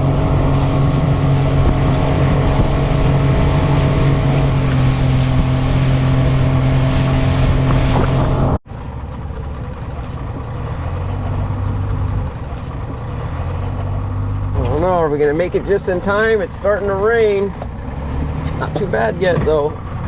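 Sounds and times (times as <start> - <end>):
low engine hum: 0.0 - 20.0
outboard motor running: 0.0 - 20.0.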